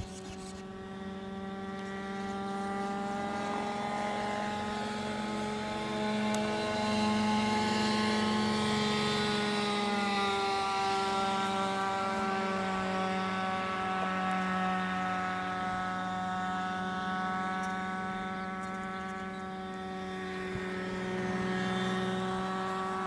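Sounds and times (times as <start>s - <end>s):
motor droning: 0.0s - 23.0s.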